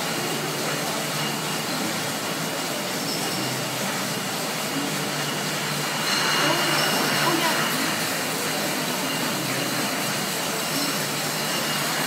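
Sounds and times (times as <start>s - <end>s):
bottling line machinery din: 0.0s - 12.0s.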